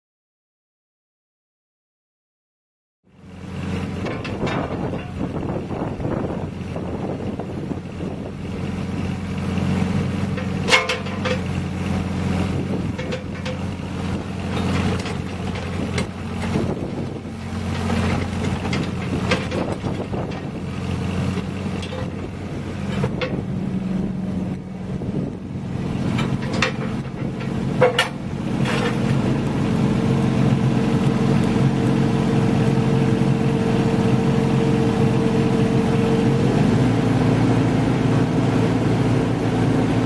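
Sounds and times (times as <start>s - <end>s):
excavator diesel engine running: 3.1s - 40.0s.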